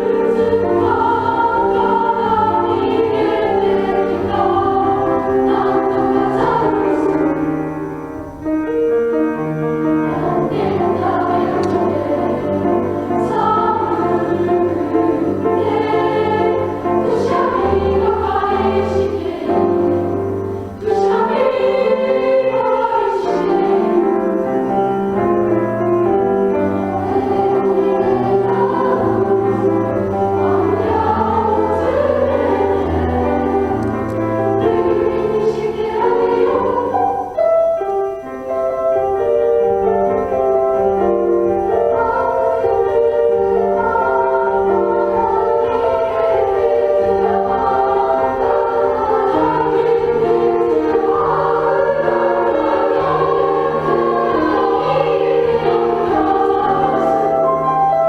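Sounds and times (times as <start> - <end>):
choir singing in parts: 0.0 - 58.0
piano accompaniment: 0.0 - 58.0.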